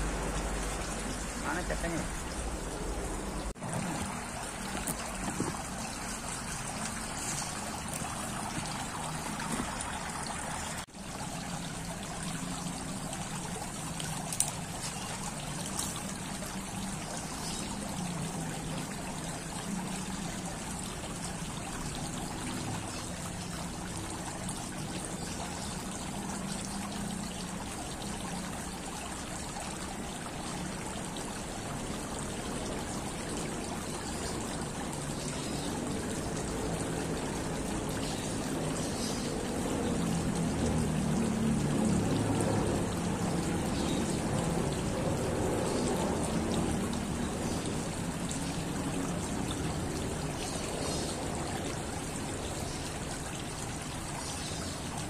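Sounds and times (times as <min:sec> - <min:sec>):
fountain water trickling and splashing: 0:00.0 - 0:55.0.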